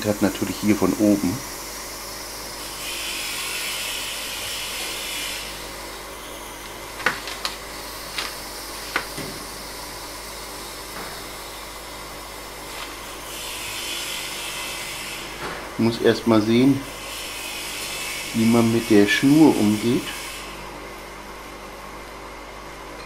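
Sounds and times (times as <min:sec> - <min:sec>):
electrostatic applicator buzzing: 0:00.0 - 0:20.6.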